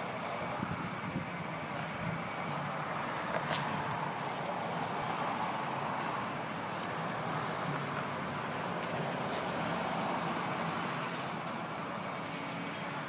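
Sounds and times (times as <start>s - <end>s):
engine hum: 0.0s - 13.0s
road noise: 0.0s - 13.0s.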